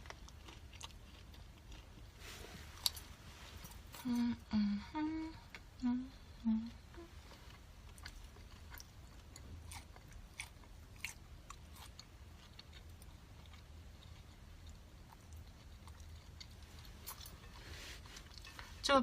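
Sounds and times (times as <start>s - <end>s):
person chewing: 0.0s - 4.4s, 5.4s - 18.8s.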